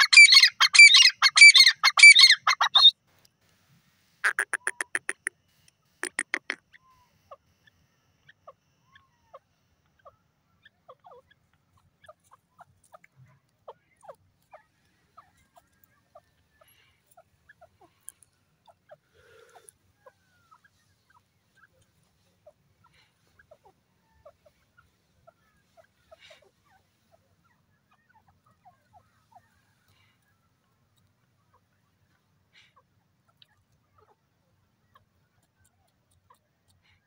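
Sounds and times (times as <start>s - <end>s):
bird clucking and chirping: 0.0s - 2.9s, 4.2s - 5.4s, 6.0s - 37.0s.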